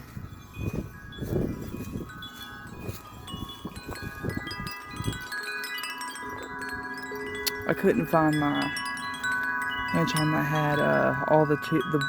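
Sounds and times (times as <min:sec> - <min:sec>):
wind chimes ringing: 0:00.0 - 0:12.0
wind gusts rumbling on microphone: 0:00.0 - 0:12.0.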